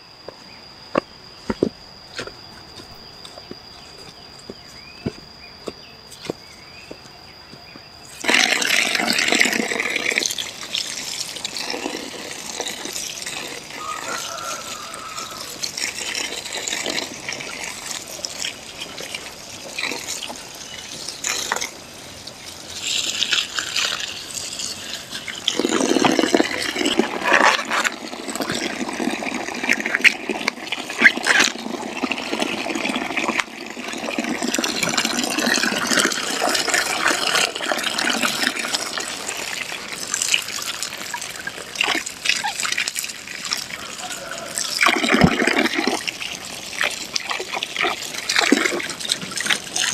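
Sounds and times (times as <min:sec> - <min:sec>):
water pouring into plastic basin: 0:08.2 - 0:49.9.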